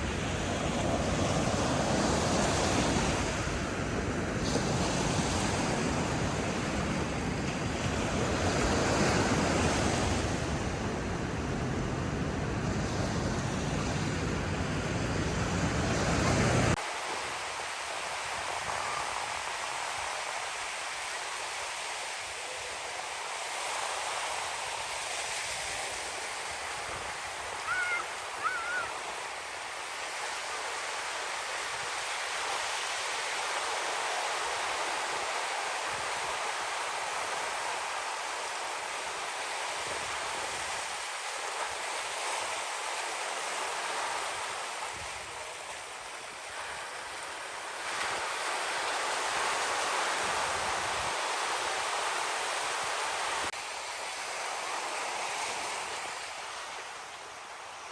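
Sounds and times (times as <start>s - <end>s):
waves breaking: 0.0s - 10.8s, 12.7s - 57.9s.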